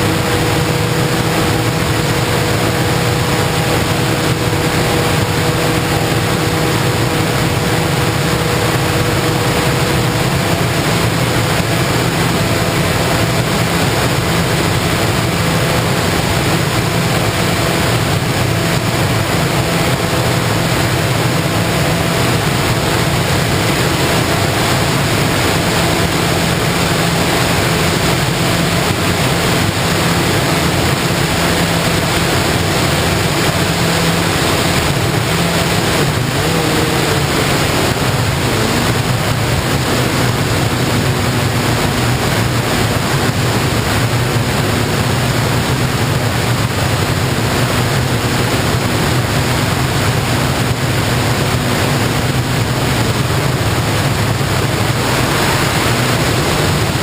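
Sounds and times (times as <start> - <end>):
air rushing over microphone: 0.0 - 57.0.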